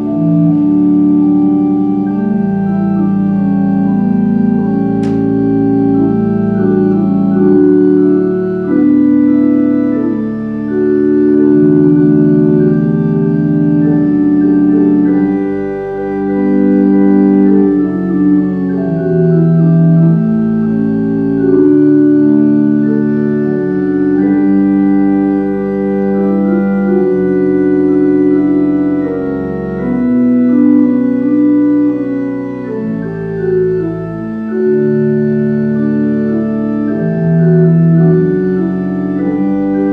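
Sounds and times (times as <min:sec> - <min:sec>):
organ playing sustained chords: 0:00.0 - 0:39.9.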